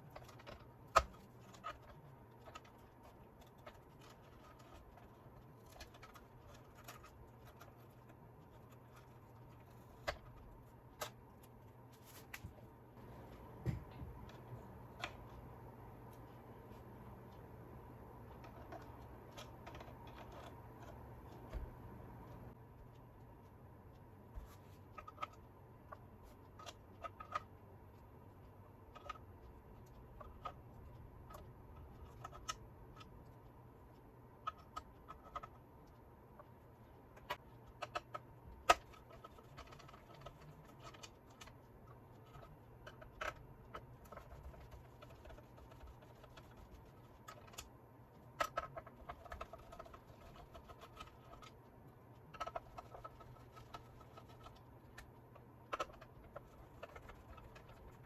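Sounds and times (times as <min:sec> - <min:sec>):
small parts clicking and tapping: 0:00.0 - 0:15.5, 0:18.2 - 0:58.0
low steady hum: 0:00.0 - 0:58.0.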